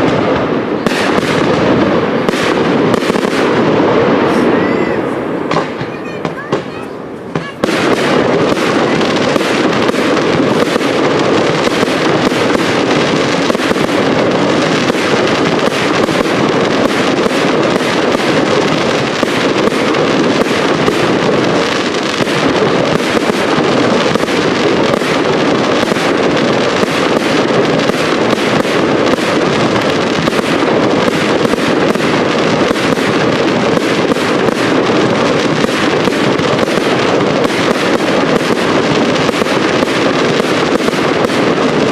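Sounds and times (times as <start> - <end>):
fireworks bangs and crackle: 0.0 - 41.9.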